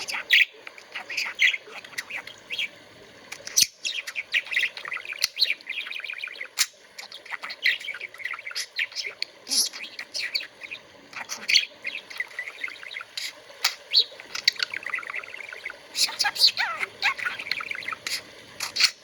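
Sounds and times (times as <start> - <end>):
budgerigar chirping: 3.5 - 19.0.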